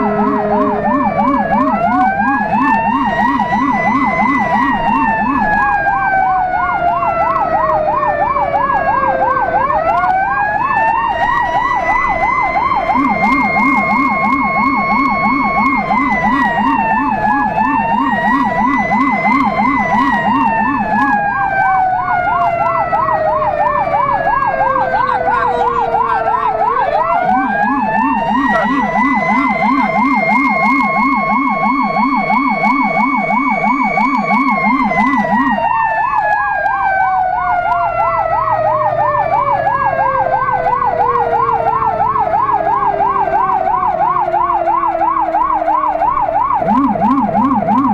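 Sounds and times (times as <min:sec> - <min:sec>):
low-pitched warbling siren: 0:00.0 - 0:47.9
siren yelp and wail: 0:00.0 - 0:47.9.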